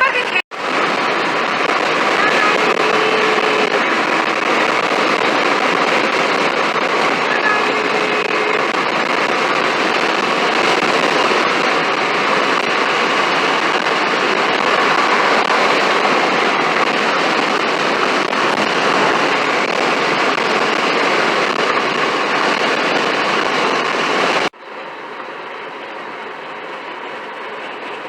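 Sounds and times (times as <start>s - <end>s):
road and wind noise: 0.0s - 28.0s.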